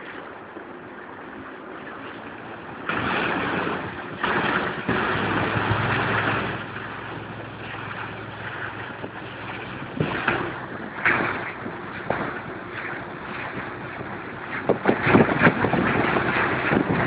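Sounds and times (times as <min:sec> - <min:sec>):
motorboat engine hum: 0:00.0 - 0:17.0
rush of wind and water: 0:00.0 - 0:17.0.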